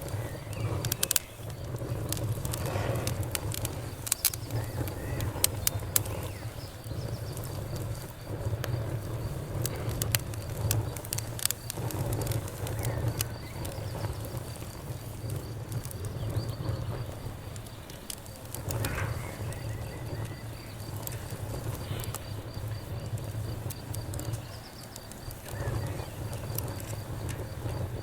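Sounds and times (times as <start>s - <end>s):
campfire crackling and popping: 0.0s - 28.0s
faint insect trill: 0.0s - 28.0s.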